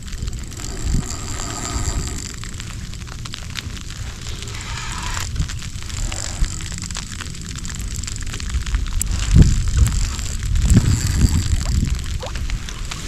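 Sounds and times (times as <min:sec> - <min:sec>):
snow ticking on microphone: 0:00.0 - 0:13.0
wind rumbling on microphone: 0:00.0 - 0:13.0.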